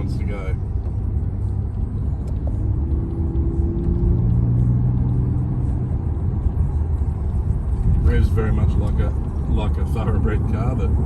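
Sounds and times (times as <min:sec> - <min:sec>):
car engine drone: 0:00.0 - 0:11.0
road rumble: 0:00.0 - 0:11.0.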